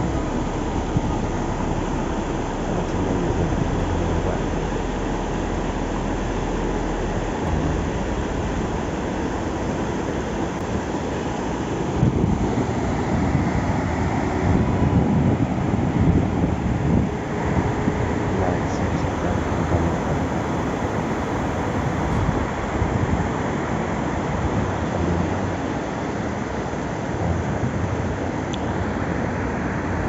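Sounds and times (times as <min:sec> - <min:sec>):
deep low rumble: 0:00.0 - 0:26.0, 0:27.0 - 0:28.9
vehicle road noise rushing: 0:00.0 - 0:30.0.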